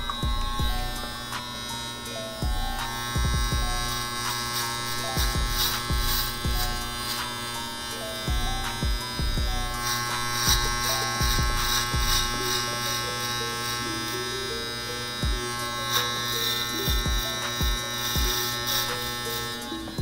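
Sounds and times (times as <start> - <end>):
electric hair clippers buzzing: 0.0 - 20.0.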